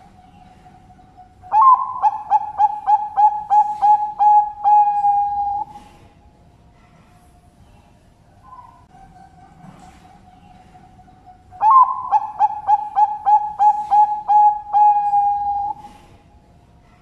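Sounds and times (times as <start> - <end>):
dove cooing song: 0.0 - 6.0, 8.5 - 16.2
faint background cooing: 0.0 - 17.0.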